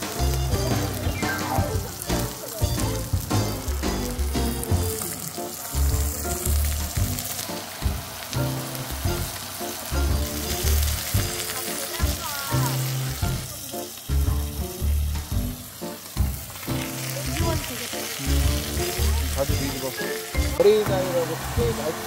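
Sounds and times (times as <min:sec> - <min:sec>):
pork sizzling on griddle: 0:00.0 - 0:22.0.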